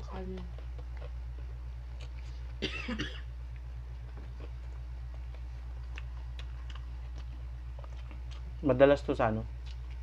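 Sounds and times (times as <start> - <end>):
crunchy food being chewed: 0.0 - 2.6, 3.4 - 10.0
steady low hum: 0.0 - 10.0.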